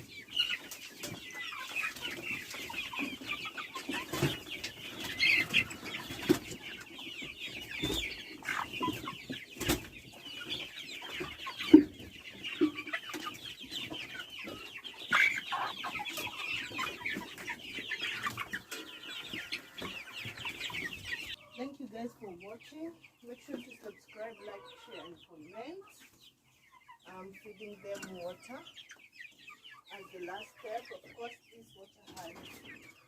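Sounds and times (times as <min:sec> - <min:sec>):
chickens clucking and cheeping: 0:00.0 - 0:33.0.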